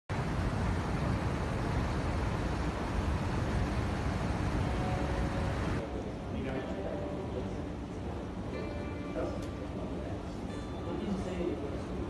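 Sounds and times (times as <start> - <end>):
low rumble with hiss: 0.1 - 12.0
faint steady tones: 0.2 - 12.0.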